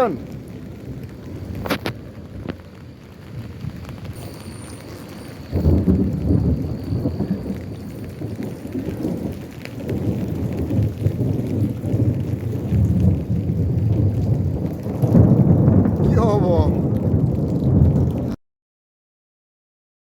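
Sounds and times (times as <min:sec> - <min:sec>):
falling rain: 0:00.0 - 0:18.4
rolling thunder: 0:00.0 - 0:18.4.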